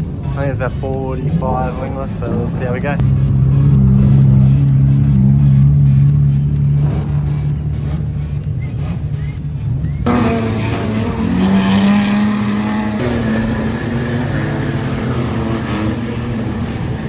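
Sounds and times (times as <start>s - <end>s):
race car engines lapping: 0.0s - 17.0s.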